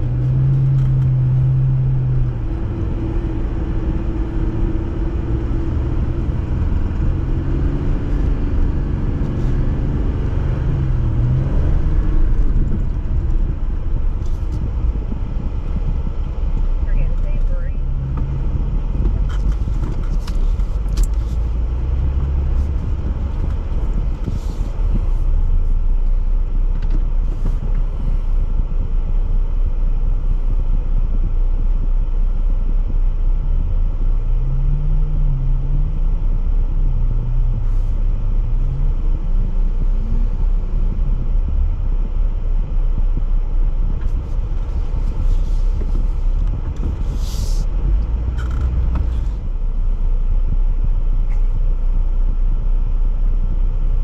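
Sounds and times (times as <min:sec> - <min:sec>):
off-road vehicle engine rumbling: 0:00.0 - 0:54.0.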